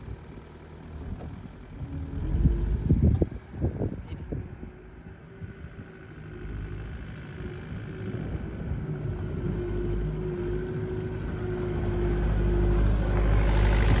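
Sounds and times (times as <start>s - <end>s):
machine engine rumbling and whining: 0.0s - 14.0s.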